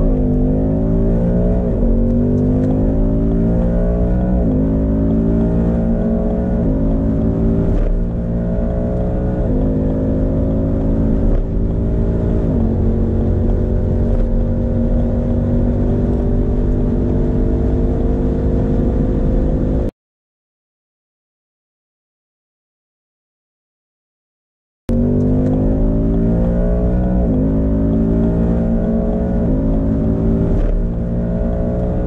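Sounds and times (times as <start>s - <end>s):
car engine at full throttle: 0.0s - 19.9s, 24.9s - 32.0s.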